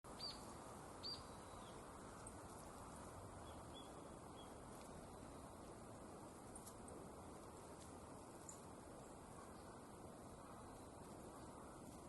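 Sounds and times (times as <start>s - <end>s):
outdoor background hiss: 0.1s - 12.0s.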